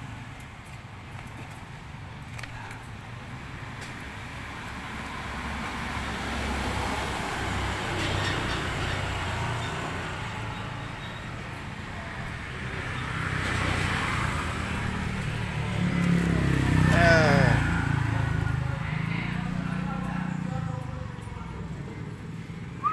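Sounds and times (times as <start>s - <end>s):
low rumble of road traffic: 0.0s - 22.9s.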